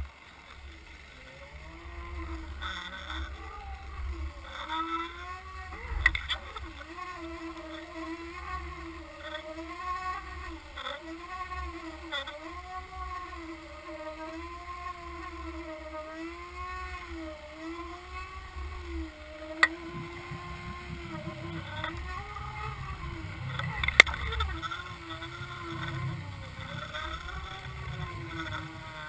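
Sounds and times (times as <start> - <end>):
boat motor droning underwater: 0.0 - 29.0.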